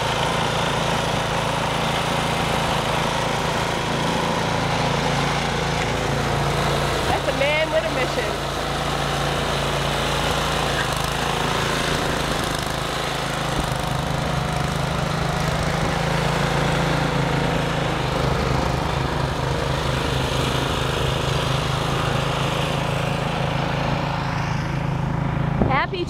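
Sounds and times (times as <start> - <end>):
snowblower engine running: 0.0 - 26.0.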